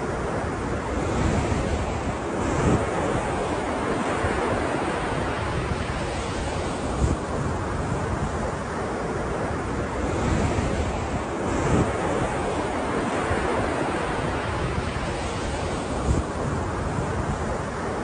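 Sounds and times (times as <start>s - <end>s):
ocean waves washing: 0.0s - 18.0s.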